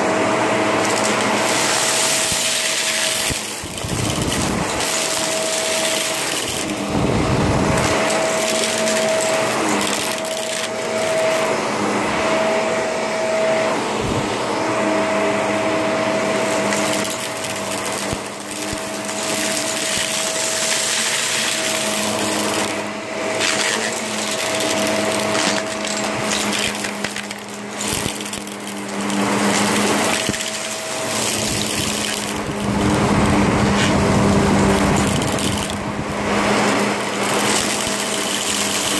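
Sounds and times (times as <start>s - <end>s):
vacuum cleaner running: 0.0s - 38.9s
vacuum whine: 0.0s - 38.9s.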